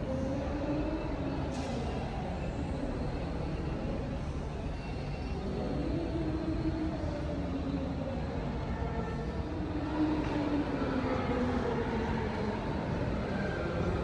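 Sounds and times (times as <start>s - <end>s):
low rumble and hiss of large room: 0.0s - 14.0s.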